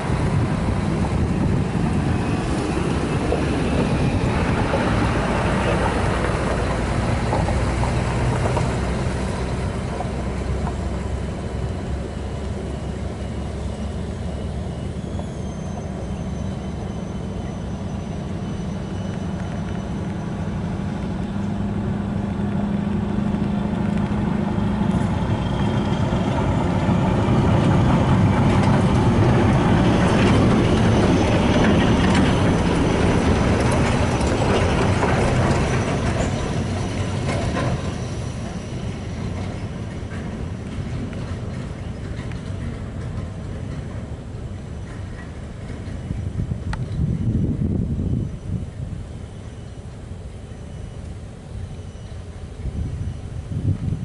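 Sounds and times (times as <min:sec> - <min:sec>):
heavy truck engines droning: 0:00.0 - 0:54.0.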